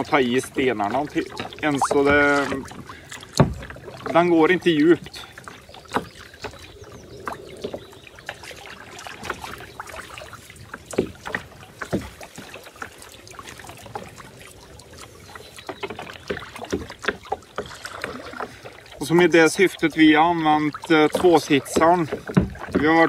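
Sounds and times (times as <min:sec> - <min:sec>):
paddle splashes and drips: 0:00.0 - 0:23.0
water lapping at hull: 0:00.0 - 0:23.0.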